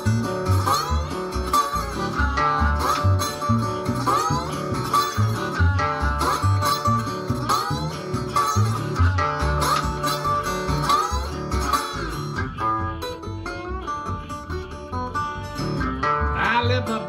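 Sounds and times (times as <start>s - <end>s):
harmonica: 0.0s - 17.0s
slide guitar: 0.0s - 17.0s
washtub bass plucking: 0.0s - 17.0s.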